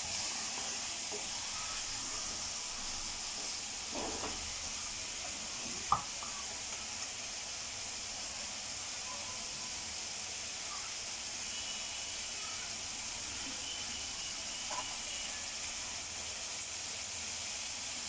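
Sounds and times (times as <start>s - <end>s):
spice paste sizzling in oil: 0.0s - 18.0s.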